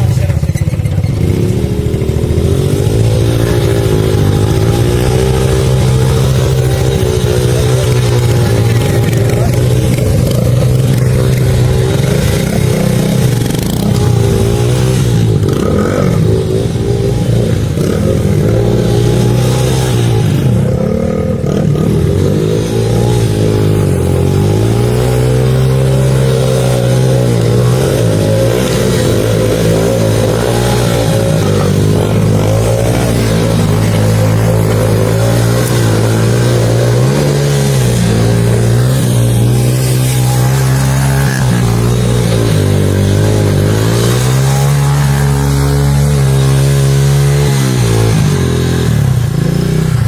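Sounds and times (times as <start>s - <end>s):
motorcycle engine under load: 0.0s - 50.0s.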